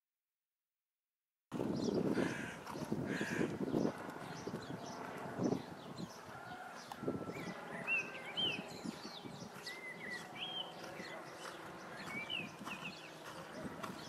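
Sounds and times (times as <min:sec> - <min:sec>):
horse hooves cantering on sand: 0:01.5 - 0:14.0
small birds chirping: 0:01.6 - 0:14.0.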